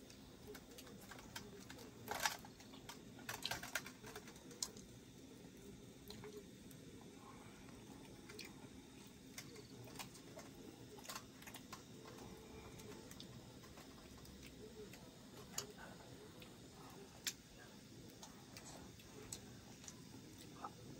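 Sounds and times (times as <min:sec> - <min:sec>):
low background noise: 0:00.0 - 0:20.9.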